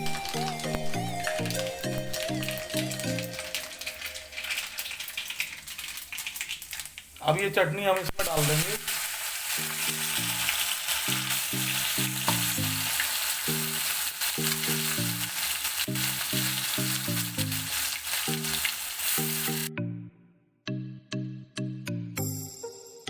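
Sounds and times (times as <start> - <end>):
mustard seeds sizzling in oil: 0.0 - 19.7.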